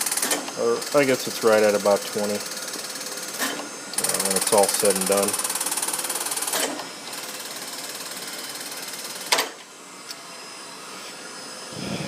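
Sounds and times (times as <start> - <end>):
surface grinder whirring: 0.0 - 12.0.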